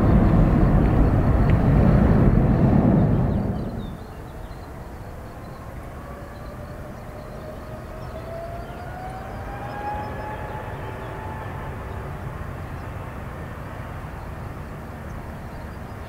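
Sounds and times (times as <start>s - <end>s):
jet engine whine rising: 0.0s - 16.0s
low steady rumble: 0.0s - 16.0s.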